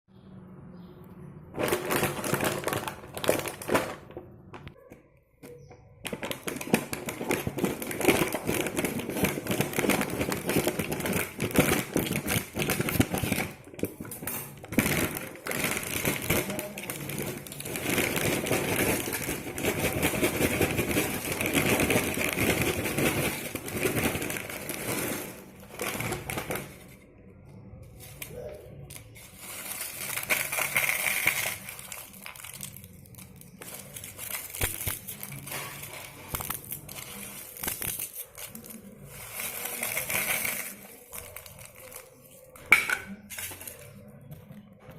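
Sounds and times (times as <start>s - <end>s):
plastic chip packet crinkling: 1.6s - 4.8s, 5.4s - 27.0s, 27.9s - 44.4s.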